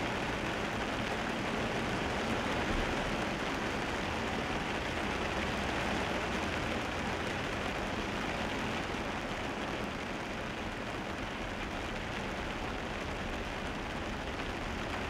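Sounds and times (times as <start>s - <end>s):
rain on car: 0.0s - 15.0s
tyres on wet road: 0.0s - 15.0s.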